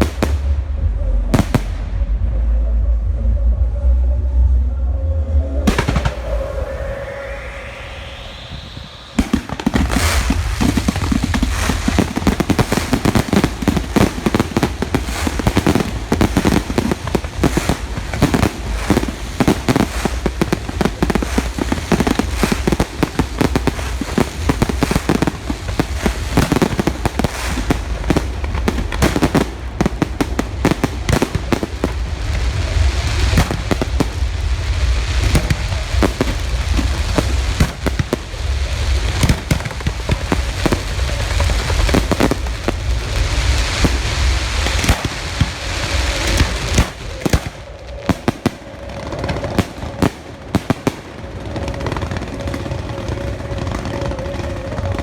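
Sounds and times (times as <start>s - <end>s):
fireworks bursts and crackle: 0.0s - 2.3s, 5.6s - 55.0s
deep fireworks booms: 0.0s - 3.3s, 5.4s - 55.0s.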